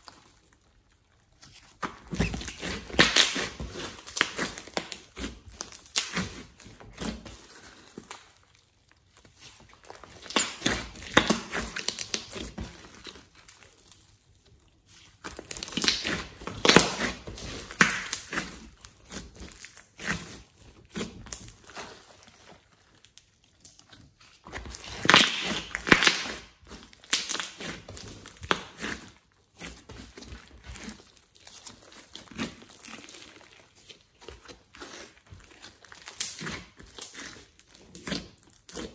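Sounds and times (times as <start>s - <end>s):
slime squishing and popping: 0.0s - 14.1s, 14.9s - 22.4s, 23.0s - 38.9s.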